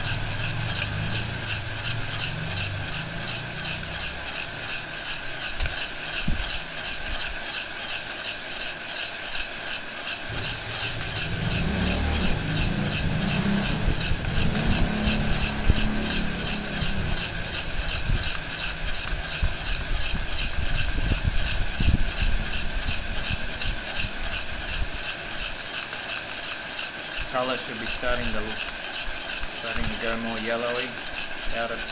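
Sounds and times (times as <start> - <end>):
coffee beans rattling in pot: 0.0 - 31.9
heat gun fan whirring: 0.0 - 31.9.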